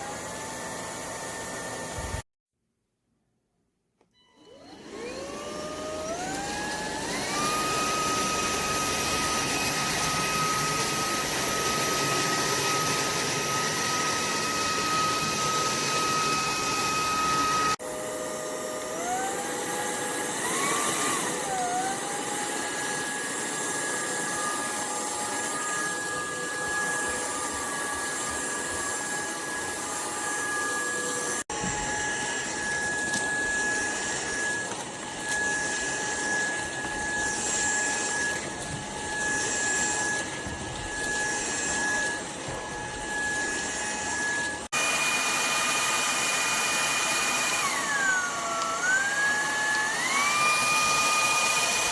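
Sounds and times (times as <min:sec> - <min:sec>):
vacuum cleaner motor whining: 0:00.0 - 0:02.2, 0:04.1 - 0:51.9.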